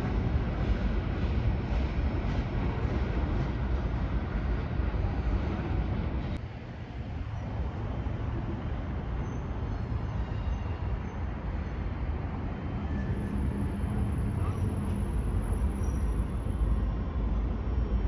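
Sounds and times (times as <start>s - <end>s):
freight train rolling past: 0.0s - 18.0s.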